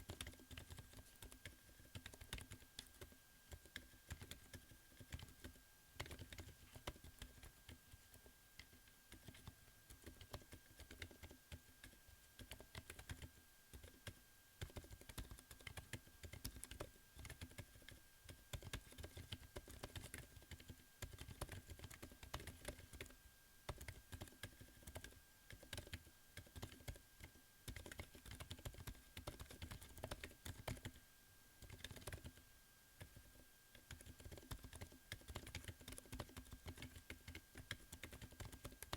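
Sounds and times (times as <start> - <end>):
quiet keyboard typing: 0.0 - 31.0, 31.6 - 38.9.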